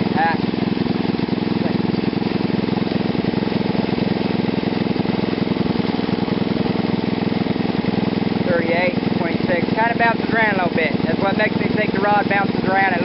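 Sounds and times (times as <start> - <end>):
petrol engine idling: 0.0 - 13.0.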